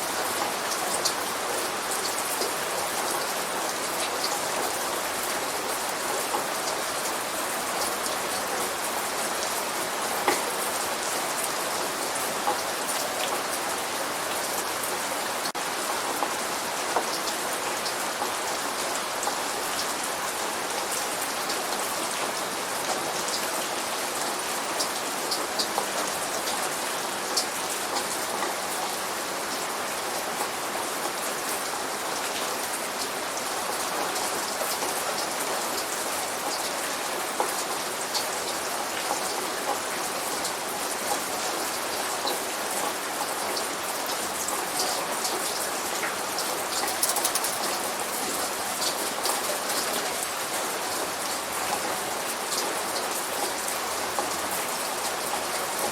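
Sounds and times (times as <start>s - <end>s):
light rain pattering: 0.0s - 55.9s.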